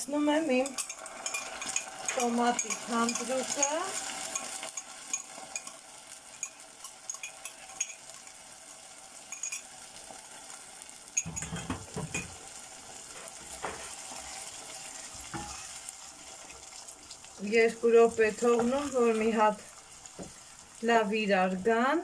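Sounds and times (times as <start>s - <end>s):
onions sizzling in a pot: 0.0s - 22.0s.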